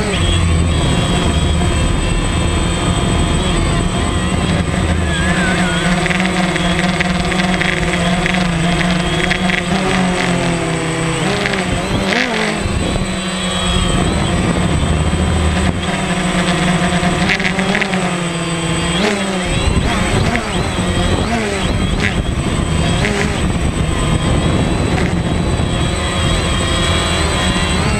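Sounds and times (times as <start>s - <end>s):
drone propellers buzzing: 0.0s - 27.9s.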